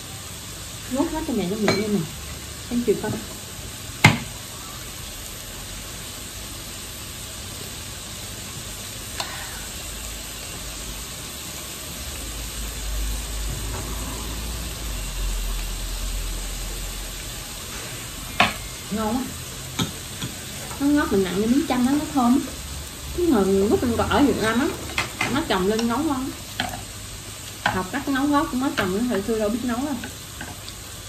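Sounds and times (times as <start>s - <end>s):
meat sizzling on a grill plate: 0.0s - 31.0s.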